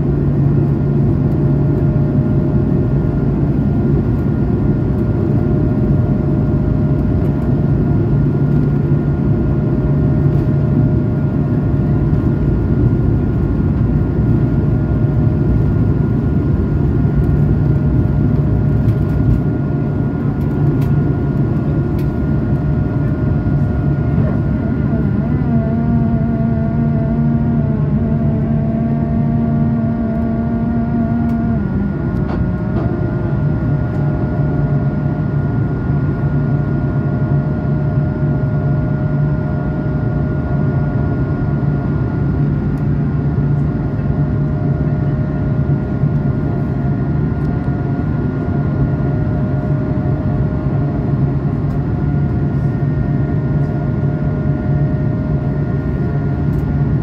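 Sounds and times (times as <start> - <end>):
airplane cabin roar: 0.0 - 57.0
low hum of steady tones: 0.0 - 57.0.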